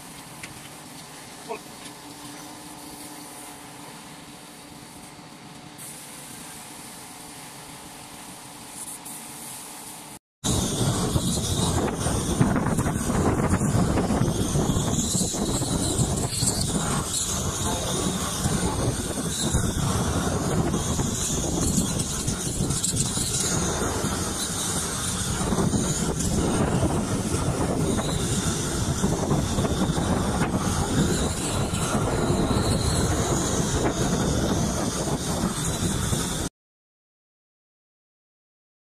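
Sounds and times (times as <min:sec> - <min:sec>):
gas torch rushing: 0:00.0 - 0:36.5.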